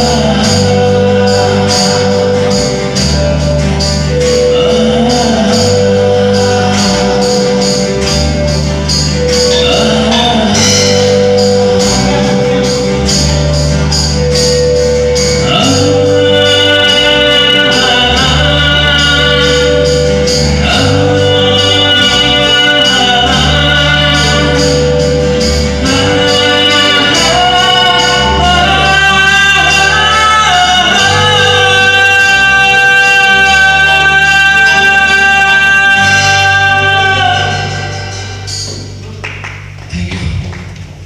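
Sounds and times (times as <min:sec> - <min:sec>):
man singing: 0:00.0 - 0:39.2
held melodic line: 0:00.0 - 0:40.0
acoustic guitars strummed: 0:00.0 - 0:41.0
electric guitar: 0:00.0 - 0:41.0
percussion beat: 0:00.0 - 0:41.0
sustained low notes: 0:00.0 - 0:41.0.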